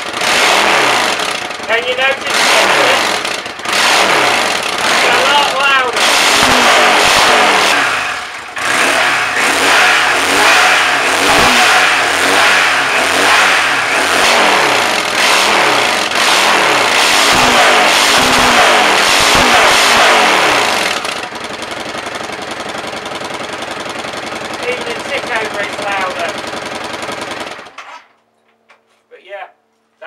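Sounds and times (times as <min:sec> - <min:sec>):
motorcycle engine revving and idling: 0:00.0 - 0:28.0.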